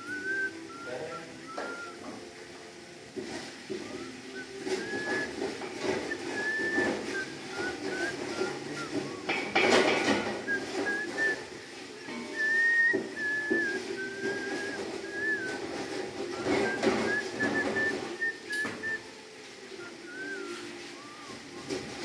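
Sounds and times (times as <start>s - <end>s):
person whistling a tune: 0.0s - 2.2s, 3.8s - 22.0s.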